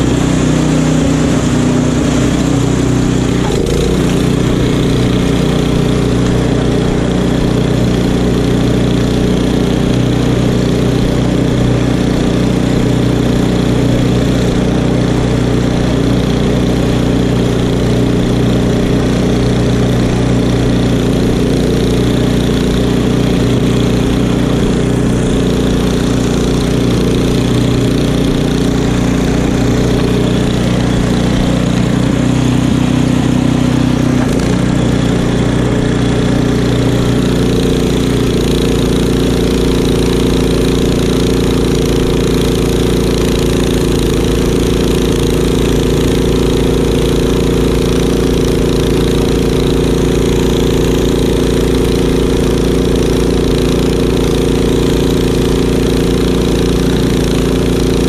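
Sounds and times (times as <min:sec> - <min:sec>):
snowblower engine running: 0:00.0 - 0:58.0.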